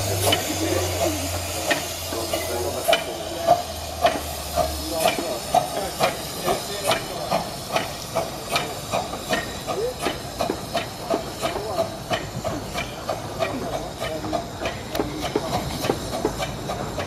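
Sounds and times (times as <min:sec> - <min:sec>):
steam hiss: 0:00.0 - 0:17.0
steam locomotive chuffing: 0:00.0 - 0:17.0.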